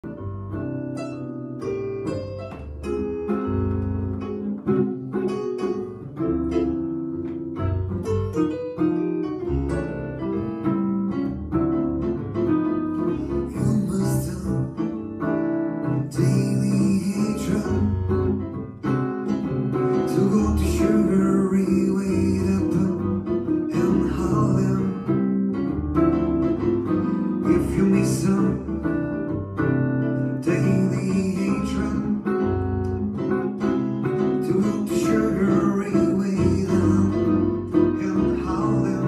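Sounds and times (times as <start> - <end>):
low piano bass notes: 0.0 - 39.0
plucked guitar chords: 0.0 - 39.0.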